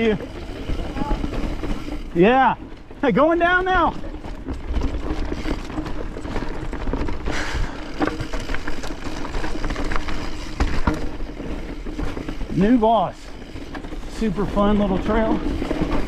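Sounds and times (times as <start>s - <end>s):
bike knocking and rattling: 0.0s - 16.0s
bike tyre noise on dirt: 0.0s - 16.0s.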